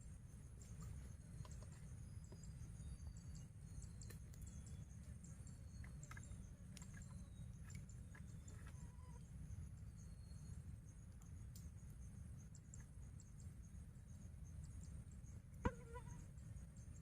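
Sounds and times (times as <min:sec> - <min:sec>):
insect chorus whine: 0:00.0 - 0:17.0
pulsing insect chirp: 0:00.0 - 0:17.0.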